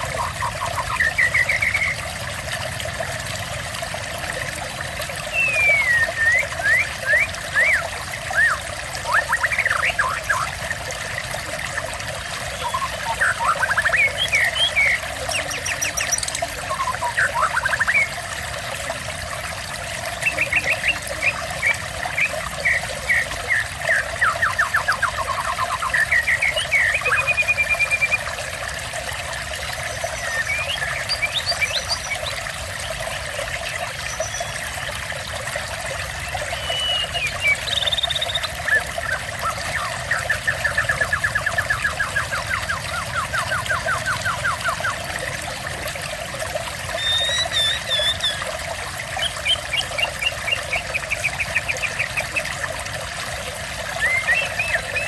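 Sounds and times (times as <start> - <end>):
songbirds trilling: 0.0 - 3.0, 5.1 - 28.4, 29.4 - 35.2, 35.8 - 52.9, 53.6 - 55.0
water trickling: 0.0 - 55.0.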